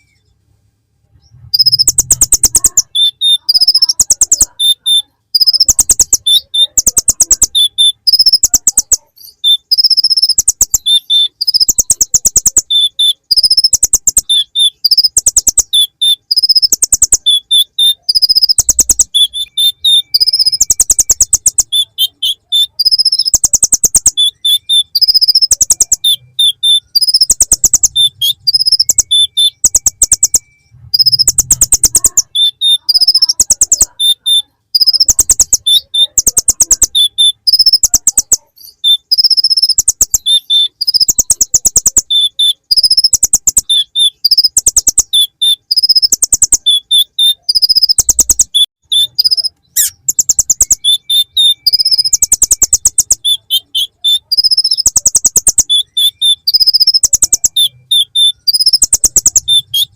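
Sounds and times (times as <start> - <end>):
bird singing ticking trills: 1.3 - 59.9.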